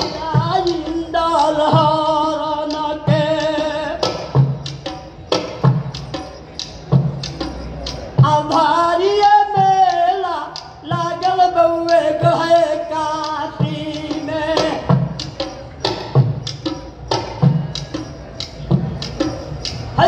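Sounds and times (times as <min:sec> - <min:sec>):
hand drum beat: 0:00.0 - 0:20.0.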